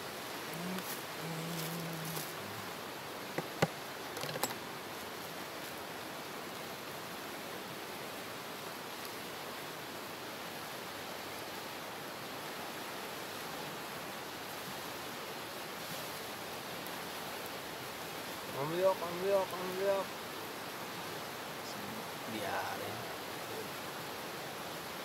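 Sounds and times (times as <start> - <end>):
fast river rushing: 0.0 - 25.0.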